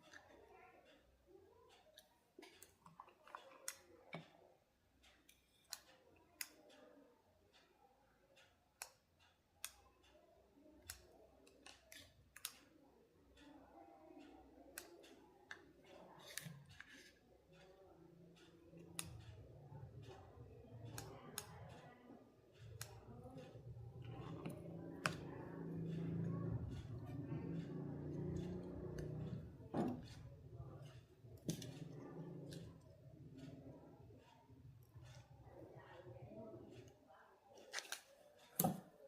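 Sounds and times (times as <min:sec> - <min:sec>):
small tools clicking and tapping: 0:00.0 - 0:39.0.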